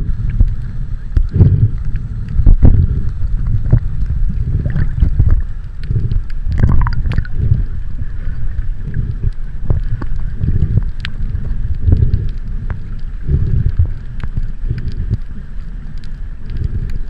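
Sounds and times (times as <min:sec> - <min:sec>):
water sloshing against microphone: 0:00.0 - 0:17.0.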